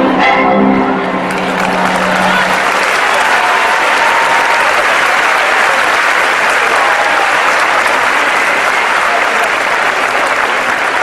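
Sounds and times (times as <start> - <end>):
audience applauding: 1.2 - 11.0.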